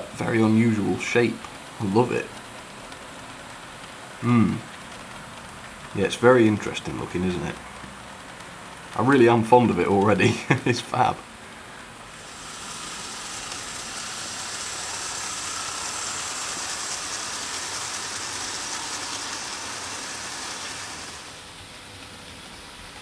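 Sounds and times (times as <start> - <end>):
model train wheels on rails: 0.0 - 23.0.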